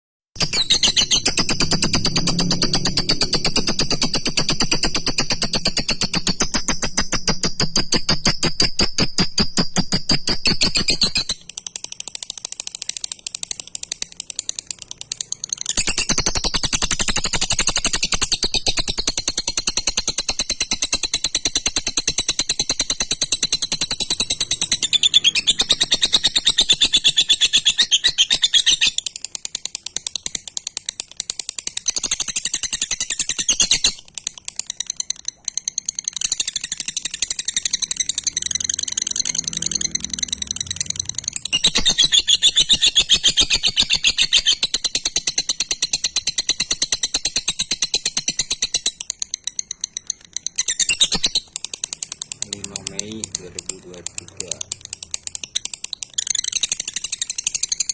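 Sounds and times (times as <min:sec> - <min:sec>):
lovebird chattering: 0:00.4 - 0:57.9.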